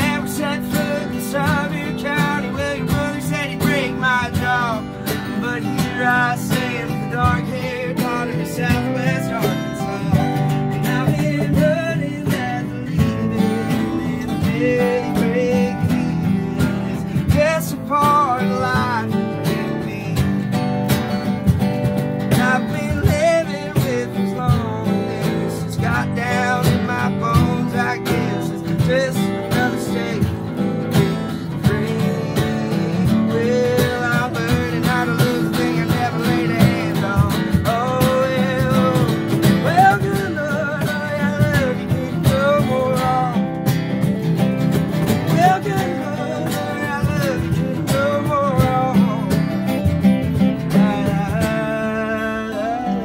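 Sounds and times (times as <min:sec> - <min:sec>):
acoustic guitars strumming: 0:00.0 - 0:53.0
guitar melody line: 0:00.0 - 0:53.0.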